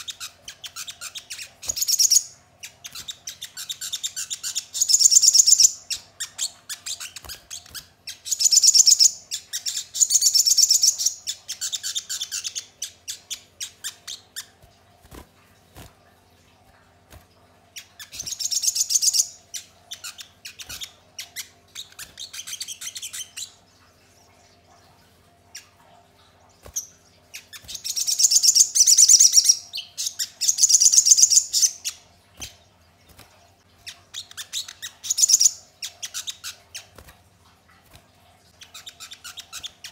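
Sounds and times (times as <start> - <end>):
bird chirping trills: 0.0 - 14.6, 17.7 - 37.0.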